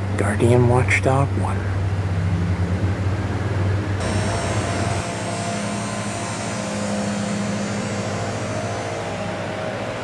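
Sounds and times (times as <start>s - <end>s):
faint high whine: 0.0s - 10.0s
turboprop aircraft droning: 0.0s - 10.0s.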